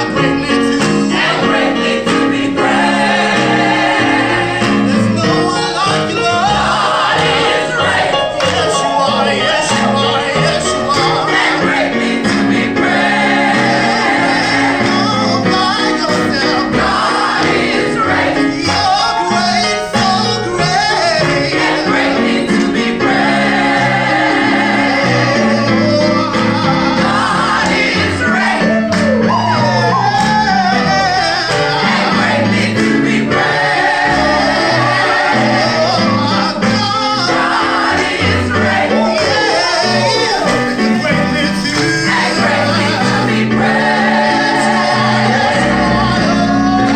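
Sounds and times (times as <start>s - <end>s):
gospel singing voices: 0.0s - 46.9s
instrumental backing: 0.0s - 46.9s.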